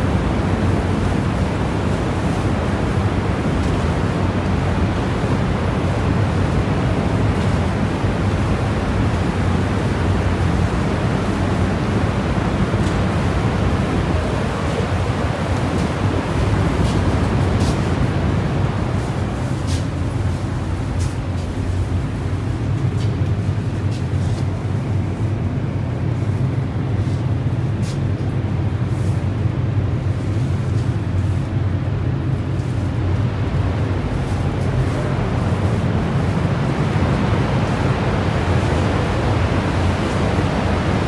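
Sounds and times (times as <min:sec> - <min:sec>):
deep rumble of falling water: 0:00.0 - 0:41.0.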